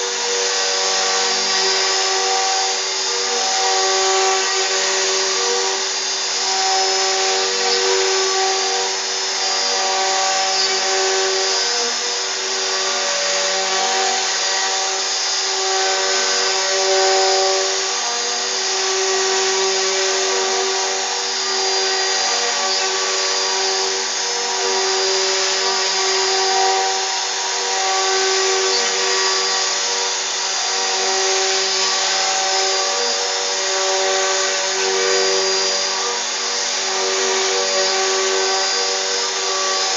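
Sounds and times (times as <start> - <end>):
cnc router spindle whine: 0.0 - 39.9.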